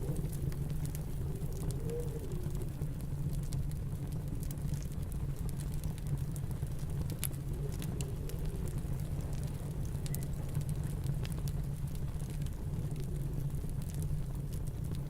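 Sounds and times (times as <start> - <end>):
snowstorm wind rumble: 0.0 - 15.0
wood fire crackling: 0.0 - 15.0.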